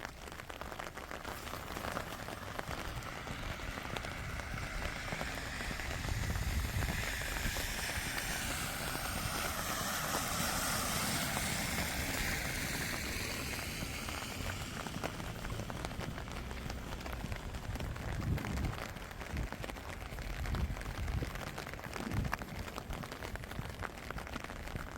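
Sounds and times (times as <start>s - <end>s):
tyres hissing on wet road: 0.0s - 24.9s.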